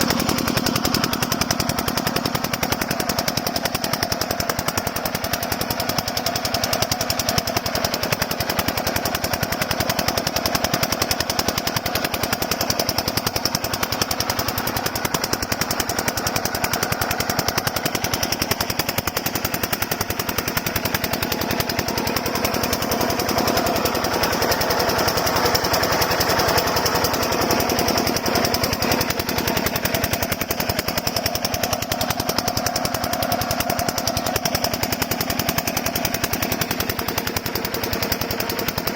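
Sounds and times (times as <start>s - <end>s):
small diesel engine running: 0.0s - 38.9s.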